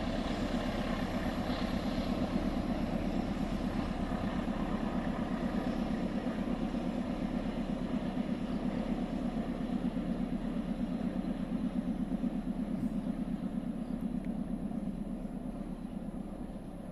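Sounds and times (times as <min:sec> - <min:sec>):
locomotive diesel engine throbbing: 0:00.0 - 0:16.9.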